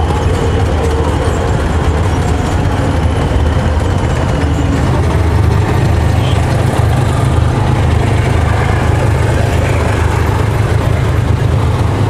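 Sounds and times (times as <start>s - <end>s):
diesel engines rumbling: 0.0s - 12.0s
tracks clattering on road: 0.0s - 12.0s.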